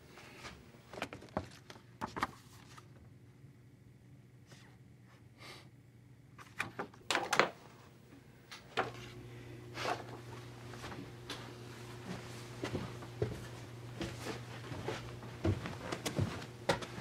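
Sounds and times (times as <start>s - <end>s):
low steady hum: 1.8s - 17.0s.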